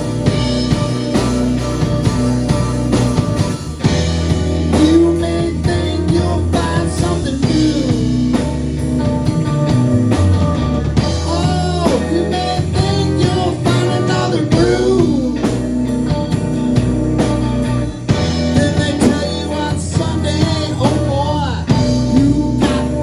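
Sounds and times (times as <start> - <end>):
bass guitar: 0.0 - 23.0
drum kit: 0.0 - 23.0
electric guitar bending notes: 0.0 - 23.0.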